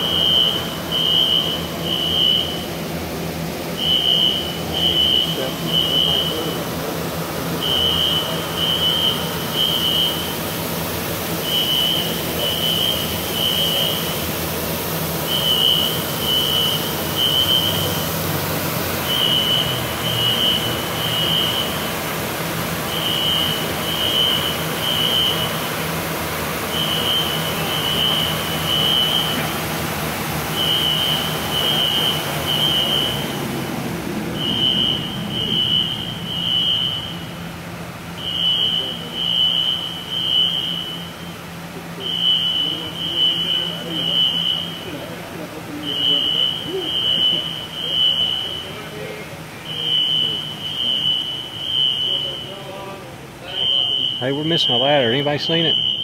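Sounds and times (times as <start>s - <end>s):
fire alarm beeping: 0.0s - 2.8s, 3.7s - 18.4s, 19.0s - 29.8s, 30.5s - 33.5s, 34.4s - 37.5s, 38.1s - 56.0s
foam generators rushing: 0.0s - 56.0s.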